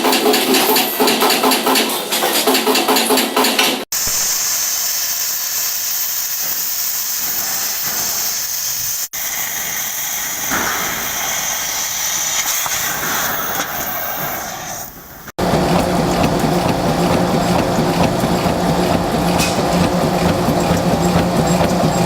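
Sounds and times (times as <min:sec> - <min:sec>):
machine hiss: 0:00.0 - 0:22.0.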